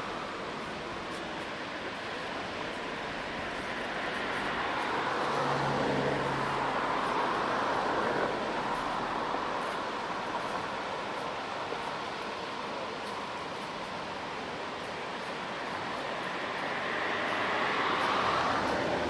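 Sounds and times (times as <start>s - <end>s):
water rushing over weir: 0.0s - 19.0s.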